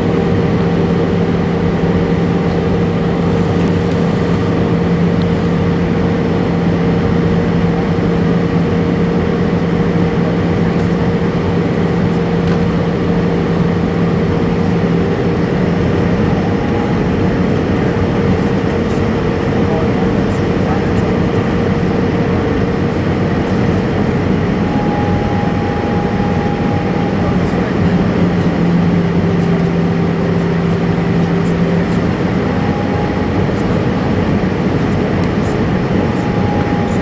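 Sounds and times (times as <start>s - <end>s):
airplane cabin engine rush: 0.0s - 37.0s
low tone: 0.0s - 37.0s.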